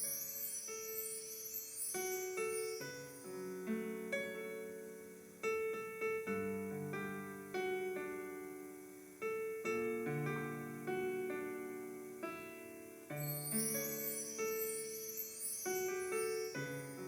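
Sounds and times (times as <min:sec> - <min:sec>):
slow gentle piano: 0:00.0 - 0:17.0.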